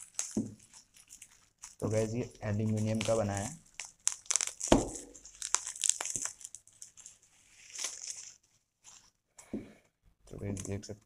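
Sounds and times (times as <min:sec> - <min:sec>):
bubble wrap crinkling: 0:00.0 - 0:09.3.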